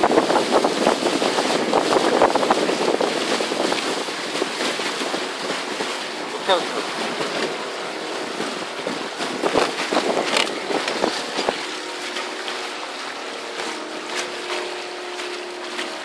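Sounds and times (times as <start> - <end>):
wind on microphone: 0.0 - 12.9
splashes: 0.0 - 16.0
water rushing along hulls: 0.0 - 16.0.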